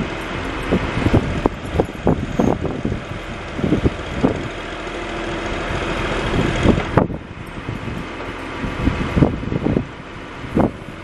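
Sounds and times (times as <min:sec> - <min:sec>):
backhoe loader running: 0:00.0 - 0:11.0.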